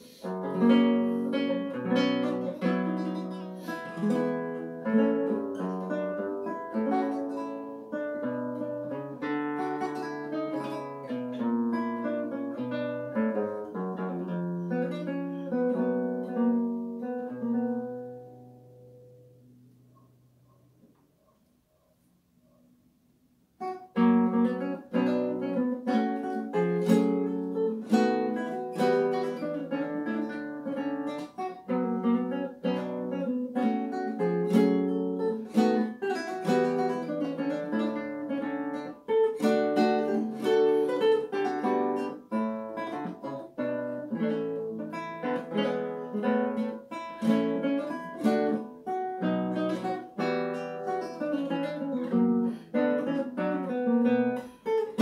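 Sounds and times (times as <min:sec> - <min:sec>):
nylon-string guitar playing: 0:00.0 - 0:20.9, 0:23.5 - 0:55.0.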